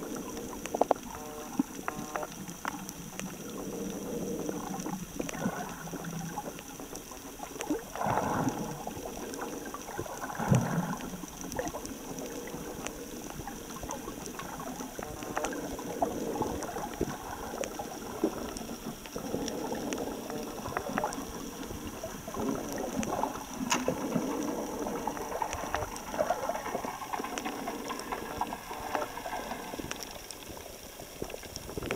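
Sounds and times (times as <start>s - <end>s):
muffled underwater sloshing: 0.0s - 31.9s
sharp clicks and crackles: 0.0s - 31.9s.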